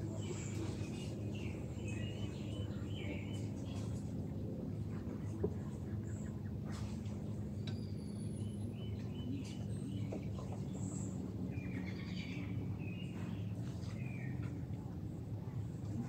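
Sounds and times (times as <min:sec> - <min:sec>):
birds chirping: 0:00.0 - 0:04.6, 0:05.2 - 0:15.7
steady low hum: 0:00.0 - 0:16.0.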